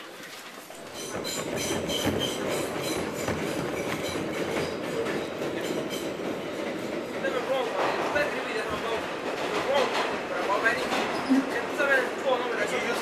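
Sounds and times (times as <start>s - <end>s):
wheels clicking over rail joints: 0.7s - 12.0s
subway train rumble and rattle: 0.8s - 13.0s.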